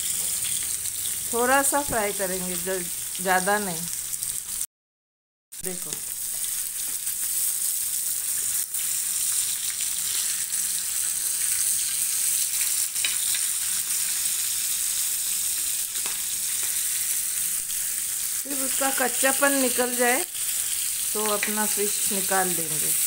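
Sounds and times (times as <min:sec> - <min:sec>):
fish sizzling in oil: 0:00.0 - 0:04.7, 0:05.6 - 0:23.0.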